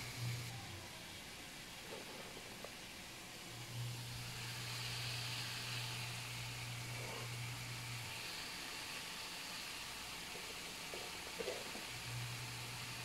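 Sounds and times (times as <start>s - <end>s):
faint sizzling in a wok: 0.0s - 13.0s.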